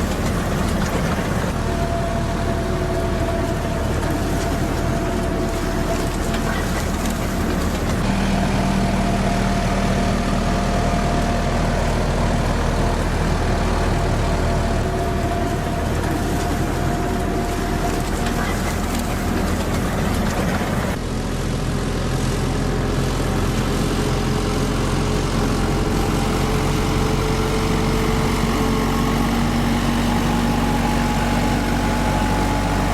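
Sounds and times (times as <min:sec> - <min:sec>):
heavy farm machinery engine running: 0:00.0 - 0:32.9.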